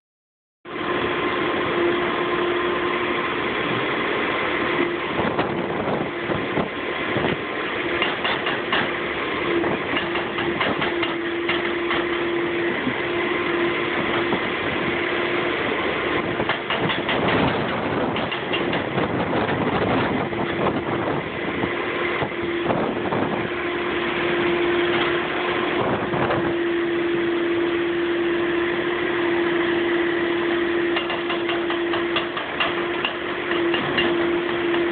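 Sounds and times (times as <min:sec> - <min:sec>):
diesel machinery running with whine: 0:00.7 - 0:34.9.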